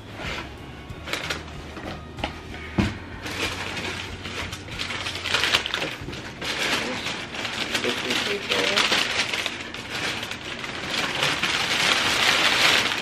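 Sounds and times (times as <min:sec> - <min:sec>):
packing paper rustling and crinkling: 0:00.0 - 0:13.0.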